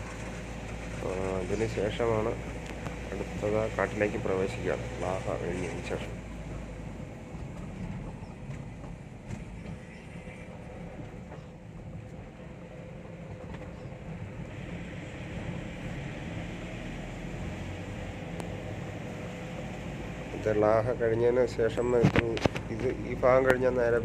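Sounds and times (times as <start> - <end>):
tyres on wet road: 0.0 - 24.0
vehicle engine and road noise: 0.0 - 24.0.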